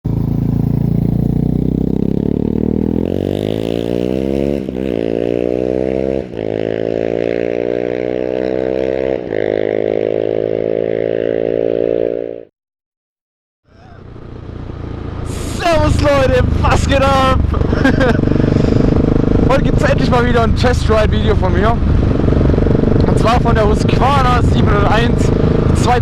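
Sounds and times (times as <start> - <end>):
motorcycle engine accelerating: 0.0 - 12.5, 13.7 - 26.0.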